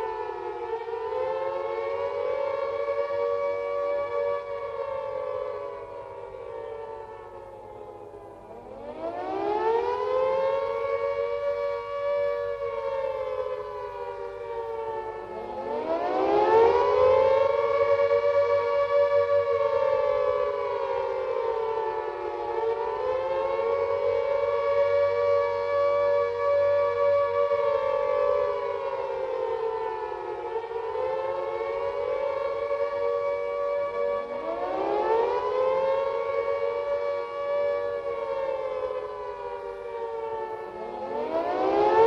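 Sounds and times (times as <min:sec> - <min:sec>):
air-raid siren wailing: 0:00.0 - 0:42.0.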